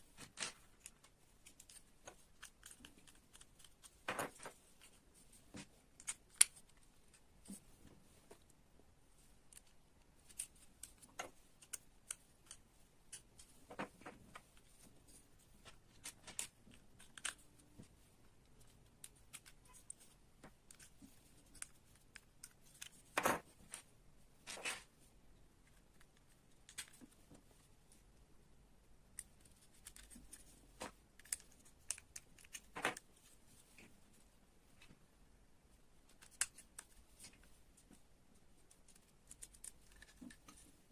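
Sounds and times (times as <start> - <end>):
small plastic parts clicking: 0.1 - 7.6, 9.3 - 27.6, 29.0 - 34.0, 36.0 - 40.9.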